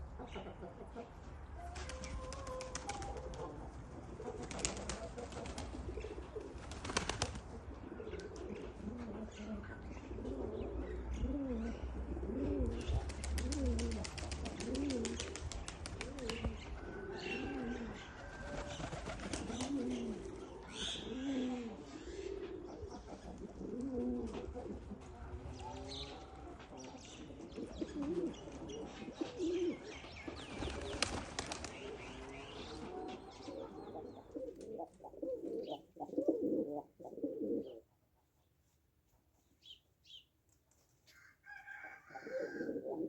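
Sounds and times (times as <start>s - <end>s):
pigeons cooing: 1.6s - 37.9s, 41.7s - 43.0s.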